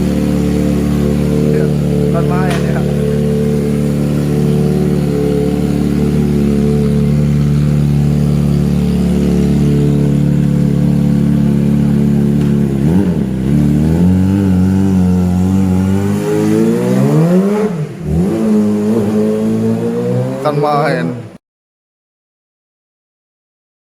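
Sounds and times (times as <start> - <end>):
motorcycle engine revving: 0.0 - 21.3.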